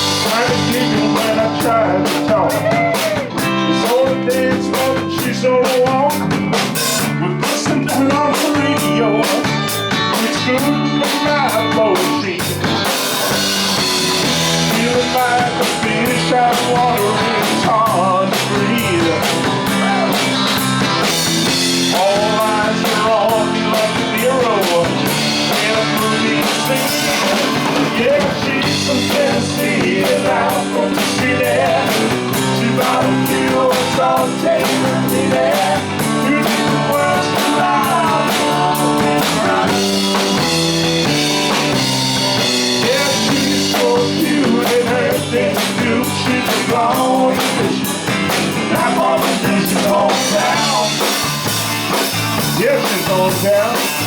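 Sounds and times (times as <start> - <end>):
drum kit: 0.0 - 54.0
rock band playing: 0.0 - 54.0.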